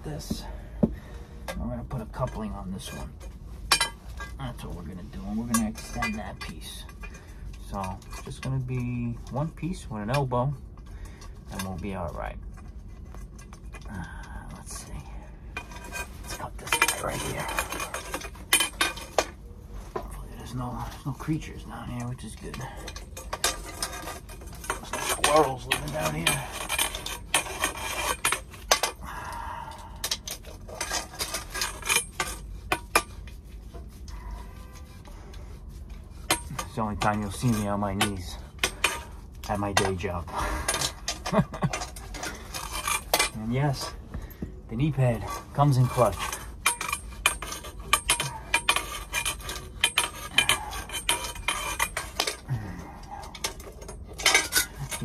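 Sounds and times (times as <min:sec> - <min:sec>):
metal pipe clinks and scrapes: 0:00.0 - 0:55.0.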